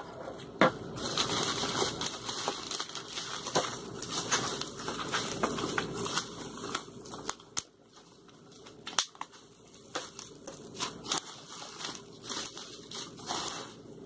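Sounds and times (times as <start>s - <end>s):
bubble wrap crinkling: 0.3s - 14.0s
sharp clicks and crackles: 1.1s - 13.6s.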